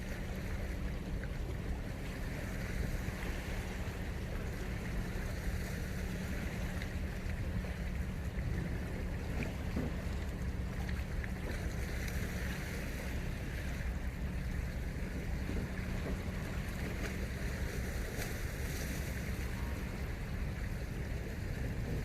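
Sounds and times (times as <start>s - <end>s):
sea waves washing: 0.0s - 22.0s
wind rumbling on microphone: 0.0s - 22.0s.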